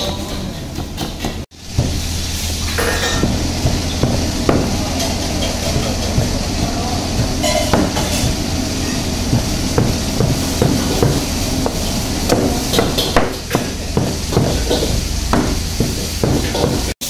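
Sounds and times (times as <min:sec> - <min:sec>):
steady hiss: 0:01.5 - 0:17.0
low hum: 0:01.6 - 0:17.0.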